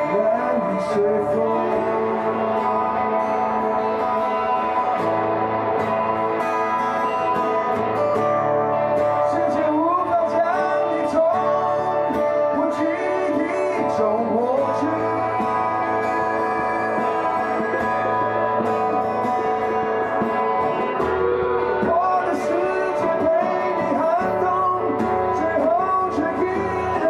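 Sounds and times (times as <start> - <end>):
man singing: 0.0 - 5.0, 9.0 - 20.8, 21.4 - 27.0
live band with guitars: 0.0 - 27.0.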